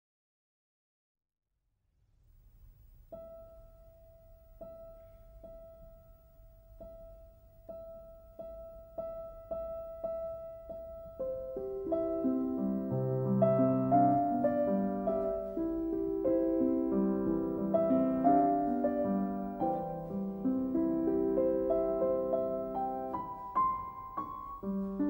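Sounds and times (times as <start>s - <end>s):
faint low hum: 2.0s - 25.0s
piano notes: 3.0s - 25.0s.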